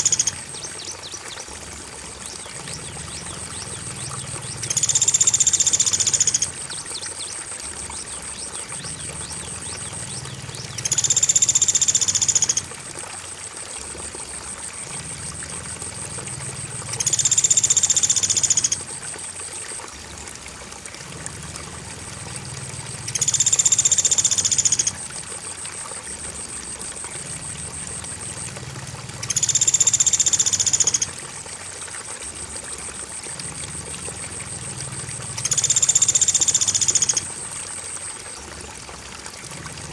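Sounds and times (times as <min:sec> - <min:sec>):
cricket trill: 0:00.0 - 0:39.9
flowing water: 0:00.0 - 0:39.9.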